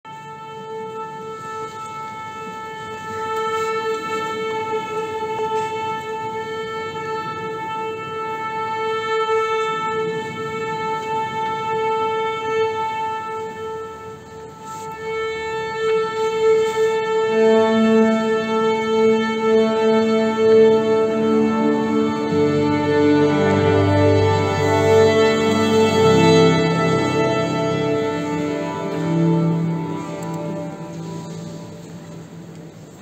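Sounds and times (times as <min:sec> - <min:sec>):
orchestra holding a tuning note: 0:00.1 - 0:33.0
strings tuning lower notes: 0:00.1 - 0:33.0.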